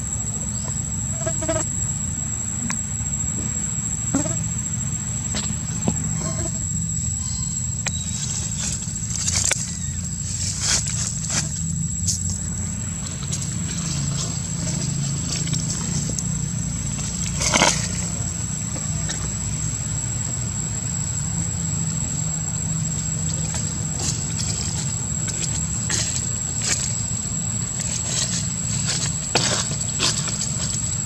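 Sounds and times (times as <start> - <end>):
high-pitched whine: 0.0 - 31.0
steady low rumble: 0.0 - 31.0.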